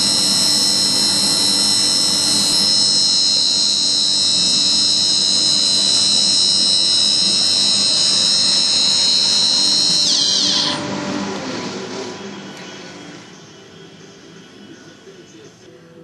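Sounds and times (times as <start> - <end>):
spindle whining and spinning down: 0.0 - 14.9.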